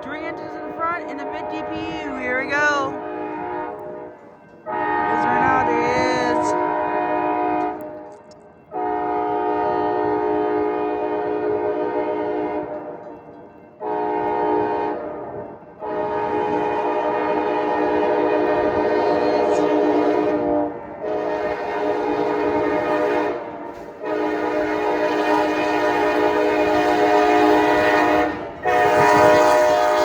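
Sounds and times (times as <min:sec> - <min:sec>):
locomotive air horn blasts: 0:00.0 - 0:08.1, 0:08.7 - 0:13.0, 0:13.8 - 0:30.0
low rumble of passing train: 0:00.0 - 0:30.0.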